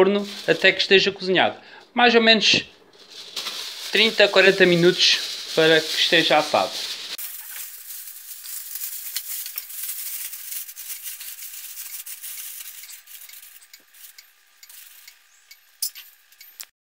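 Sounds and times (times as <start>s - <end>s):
aluminium foil crinkling: 0.0s - 1.0s, 2.9s - 16.7s.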